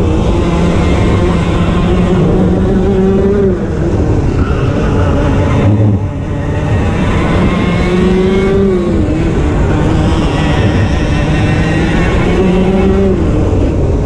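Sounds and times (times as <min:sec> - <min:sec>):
kart engine revving: 0:00.0 - 0:14.0.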